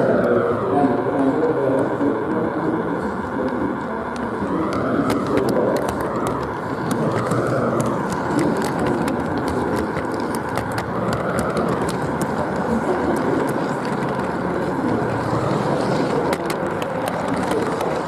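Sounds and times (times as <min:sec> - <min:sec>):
model train motor whine: 0:00.0 - 0:18.0
wheels clicking on rails: 0:00.0 - 0:18.0.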